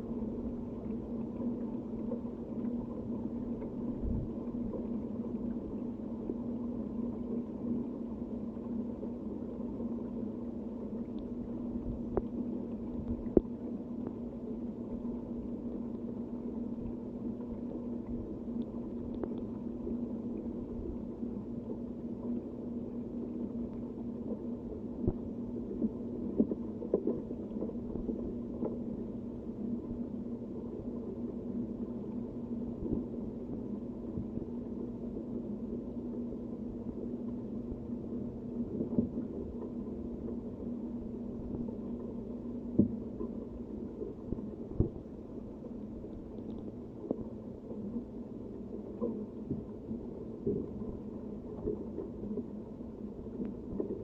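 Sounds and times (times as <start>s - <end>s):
constant low hum: 0.0s - 54.0s.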